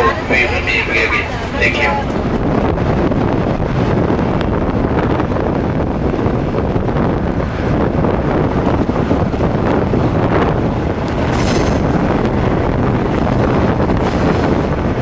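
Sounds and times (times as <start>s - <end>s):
train rumbling over tracks: 0.0s - 15.0s
wind buffeting microphone: 0.0s - 15.0s.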